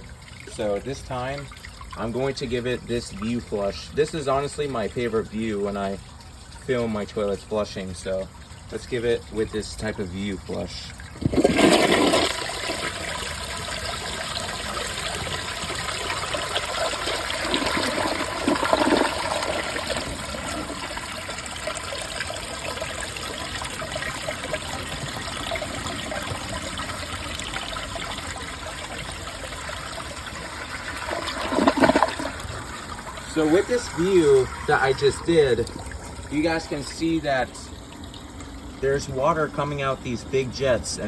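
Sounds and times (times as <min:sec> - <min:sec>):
toilet flushing: 0:00.0 - 0:41.0.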